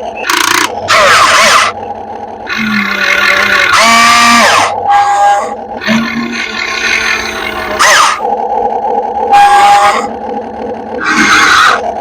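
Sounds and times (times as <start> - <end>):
toy excavator motor whine: 0.0 - 1.8, 2.4 - 12.0.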